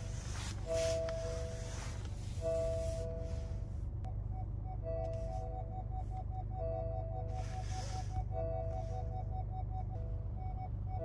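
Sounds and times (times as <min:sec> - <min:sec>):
parking sensor rapid beeping: 0:00.0 - 0:03.5, 0:04.1 - 0:11.0
low steady hum: 0:00.0 - 0:11.0.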